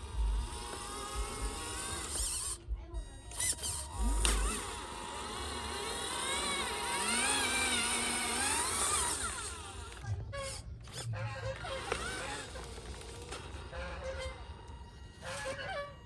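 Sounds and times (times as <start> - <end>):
radio-controlled model motor whine: 0.0 - 16.0.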